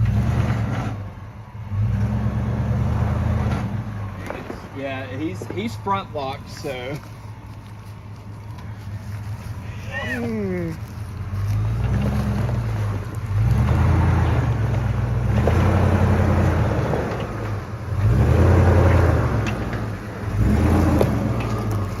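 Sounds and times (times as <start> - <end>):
truck engine pulling under load: 0.0 - 22.0.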